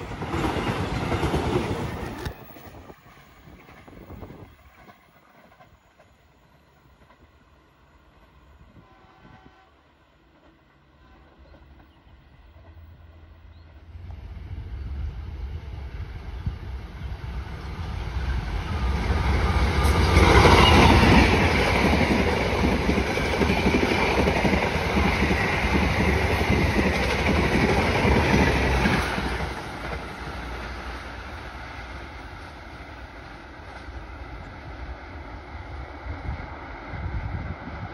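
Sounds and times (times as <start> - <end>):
coach wheels on rails: 0.0 - 9.6, 10.2 - 37.9
diesel train passing: 0.0 - 37.9.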